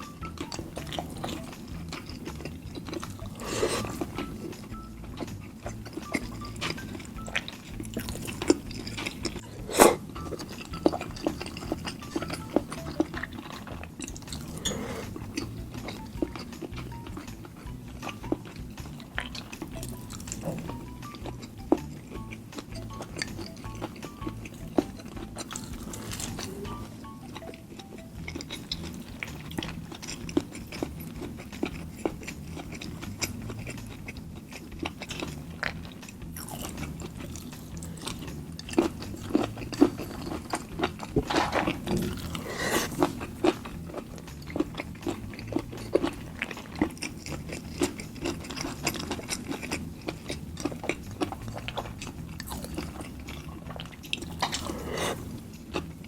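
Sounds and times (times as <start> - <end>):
close chewing and biting: 0.0 - 56.0.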